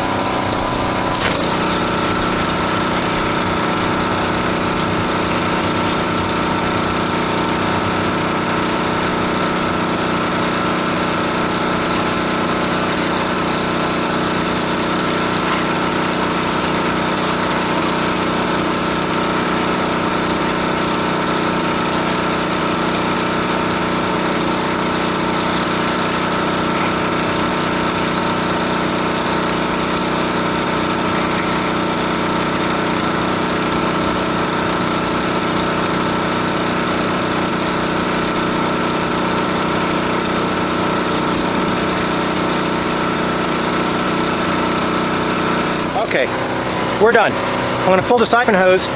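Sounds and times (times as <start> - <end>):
pressure washer engine running: 0.0 - 48.9.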